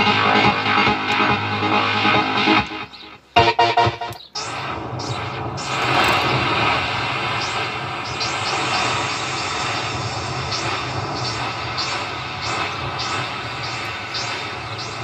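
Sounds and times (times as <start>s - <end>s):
synthesizer noise drone with sweeps: 0.0s - 15.0s.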